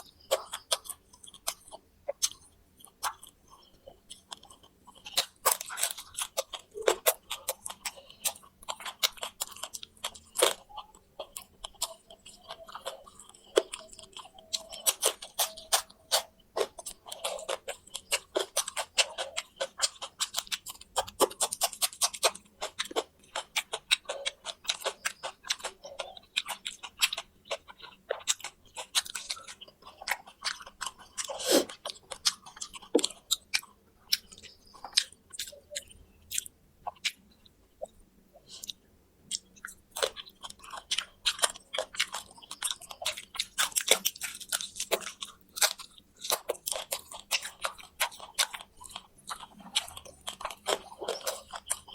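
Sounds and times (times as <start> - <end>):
crunchy chewing of fried food: 0.0 - 51.9.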